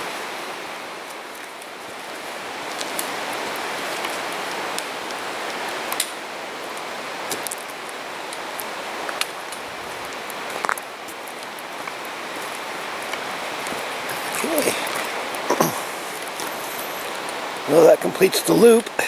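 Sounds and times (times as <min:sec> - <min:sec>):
whitewater creek rushing: 0:00.0 - 0:19.0.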